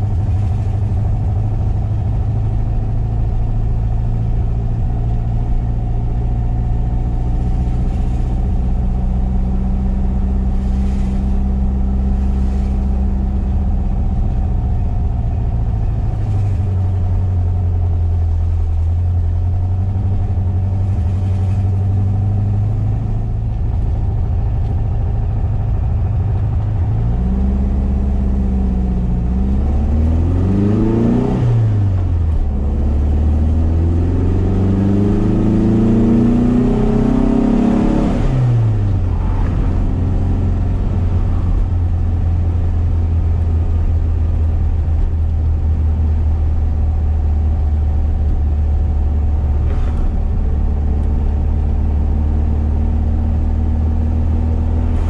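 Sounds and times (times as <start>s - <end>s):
car engine accelerating and cruising: 0.0s - 55.0s.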